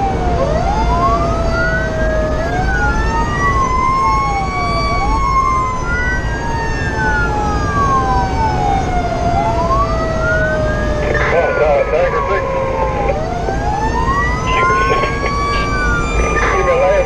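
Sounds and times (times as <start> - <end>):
fire engine siren wailing: 0.0 - 17.0
road noise: 0.0 - 17.0.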